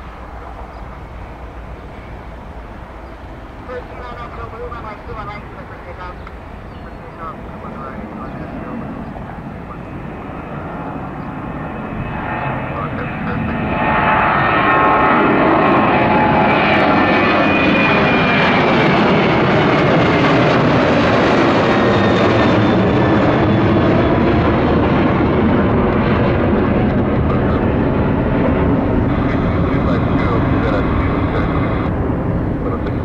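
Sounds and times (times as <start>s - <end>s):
jet engines passing with whine: 0.0s - 33.0s.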